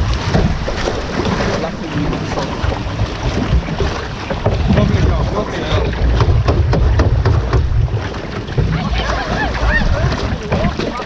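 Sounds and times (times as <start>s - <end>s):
paddle splashes: 0.0s - 11.0s
wind buffeting microphone: 0.0s - 11.0s.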